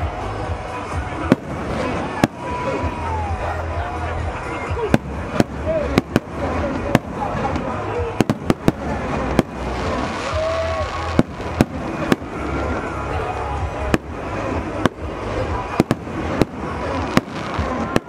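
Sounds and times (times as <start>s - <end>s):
crowd noise: 0.0s - 18.0s.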